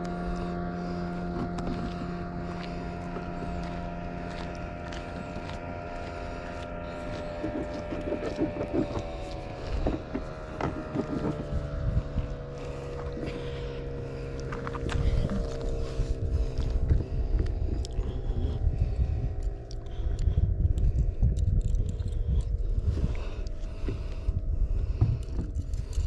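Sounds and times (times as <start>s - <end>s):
engine running drone: 0.0s - 26.0s.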